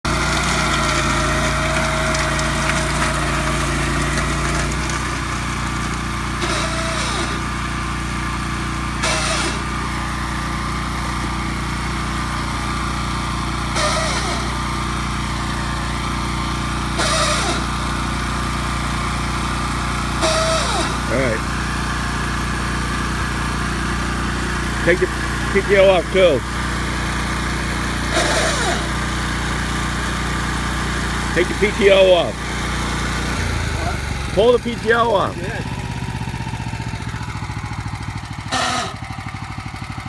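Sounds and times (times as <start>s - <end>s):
transmission grinding: 0.0s - 8.1s, 8.8s - 11.7s, 13.5s - 40.0s
tractor engine running: 0.0s - 40.0s.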